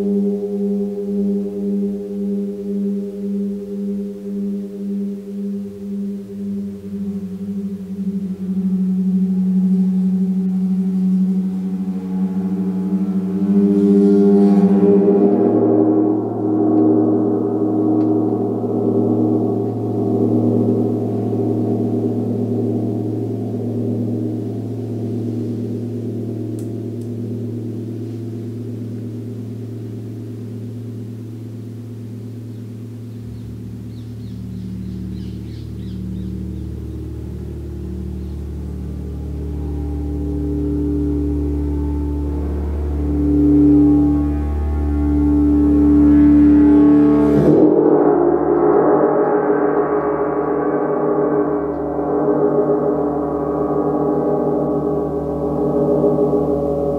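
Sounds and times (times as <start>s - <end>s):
deeper hum: 0.0s - 56.9s
large gong ringing: 0.0s - 56.9s.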